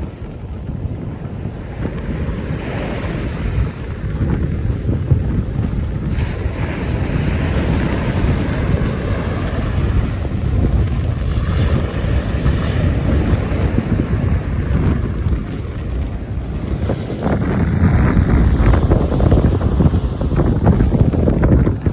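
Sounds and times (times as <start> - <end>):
ocean surf washing: 0.0 - 21.9
wind buffeting microphone: 0.0 - 21.9.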